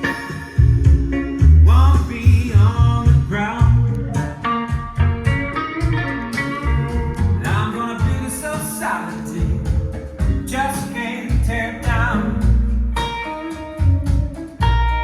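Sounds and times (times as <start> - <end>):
song with voice and guitar: 0.0 - 15.0.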